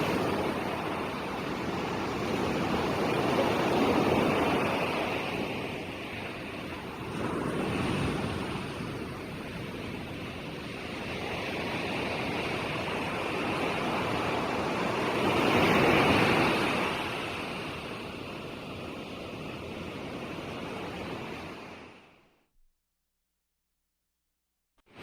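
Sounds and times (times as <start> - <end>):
ocean waves surging onto shore: 0.0 - 22.2.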